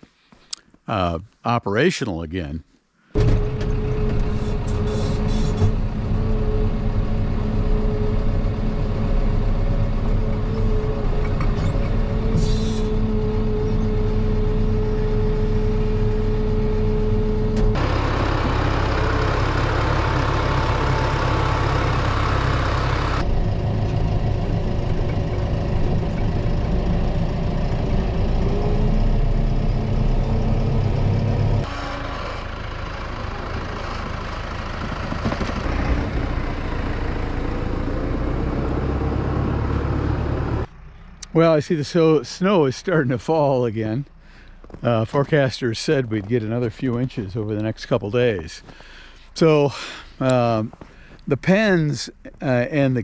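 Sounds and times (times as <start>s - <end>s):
snow-clearing machine engine: 3.2s - 51.2s.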